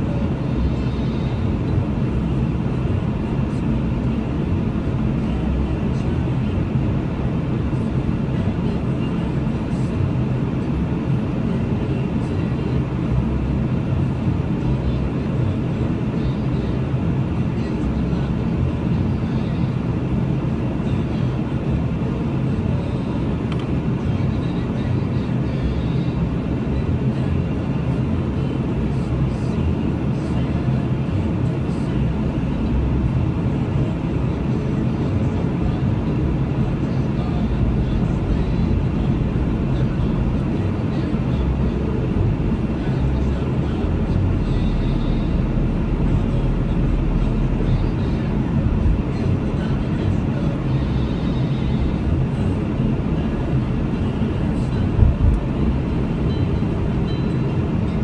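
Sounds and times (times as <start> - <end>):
car idling low rumble: 0.0 - 58.0.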